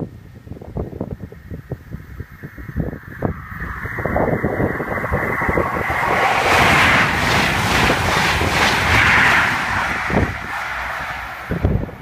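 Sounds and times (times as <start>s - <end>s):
wind on the microphone: 0.0s - 12.0s
train rushing past at speed: 2.2s - 12.0s.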